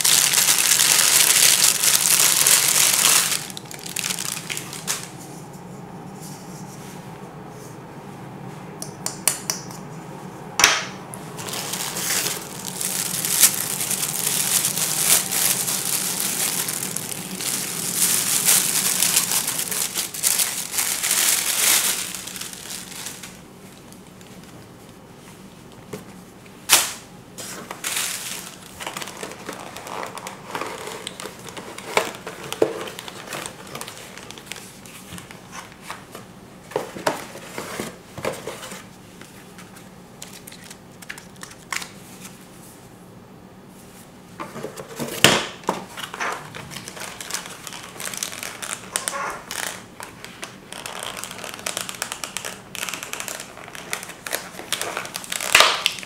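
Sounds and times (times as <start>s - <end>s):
plastic and paper crinkling: 0.0s - 5.2s, 11.4s - 24.6s, 27.4s - 42.4s, 44.4s - 56.0s.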